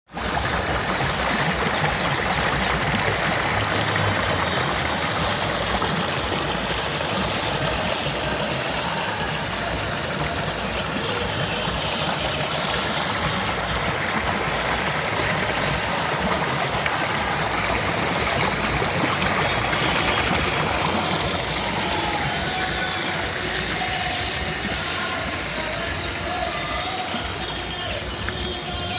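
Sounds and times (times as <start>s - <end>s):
water rushing: 0.1s - 28.9s.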